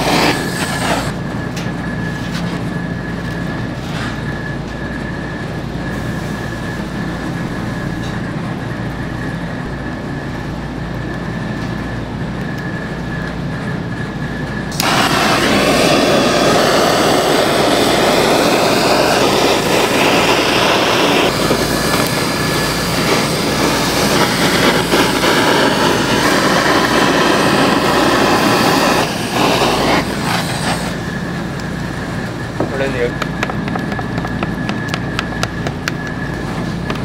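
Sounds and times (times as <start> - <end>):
blowtorch flame roaring: 0.0 - 37.0.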